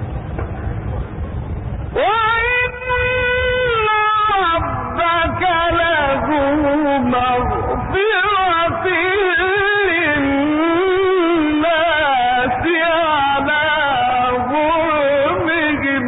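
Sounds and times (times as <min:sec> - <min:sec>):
man chanting melodically: 0:02.0 - 0:16.0.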